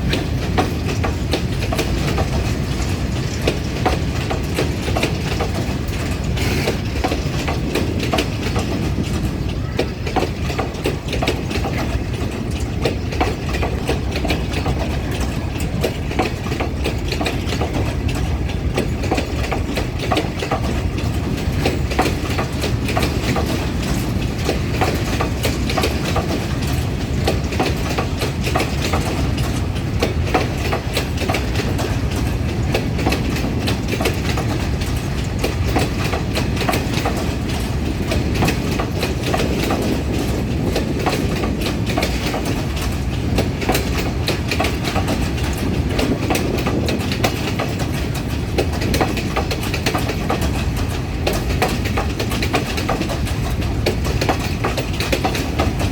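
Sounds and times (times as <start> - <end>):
clacking over rail joints: 0.0 - 55.9
train wheels rumbling on rails: 0.0 - 55.9.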